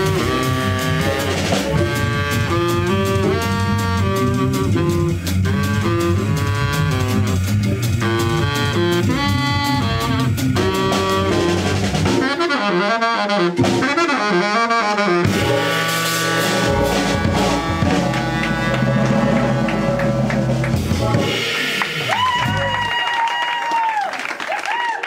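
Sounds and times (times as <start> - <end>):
keyboard accompaniment: 0.0 - 22.0
baritone saxophone playing jazz: 0.0 - 22.8
drum kit: 0.0 - 23.9.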